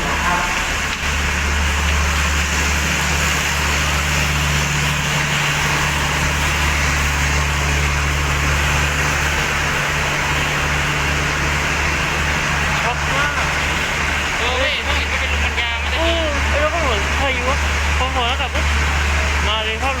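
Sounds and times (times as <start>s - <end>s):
diesel train engine hum: 0.0s - 20.0s.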